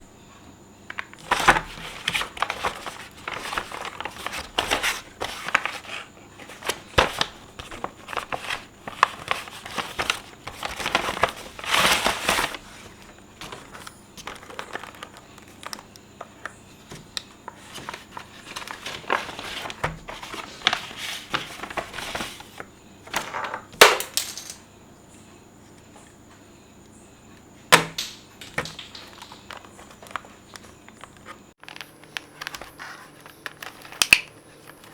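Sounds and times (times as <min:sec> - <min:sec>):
packaging crinkling and tearing: 0:00.9 - 0:23.2, 0:27.7 - 0:34.9.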